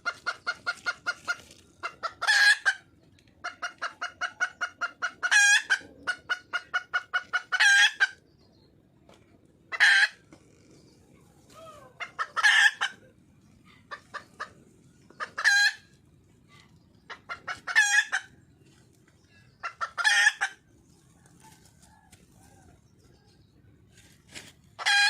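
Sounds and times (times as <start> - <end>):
hen clucking: 0.0 - 25.0.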